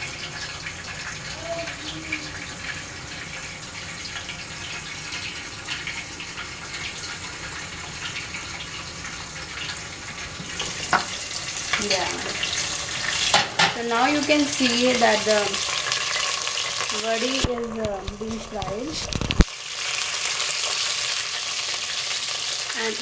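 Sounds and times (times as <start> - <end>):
dumplings sizzling in hot oil: 0.0 - 23.0.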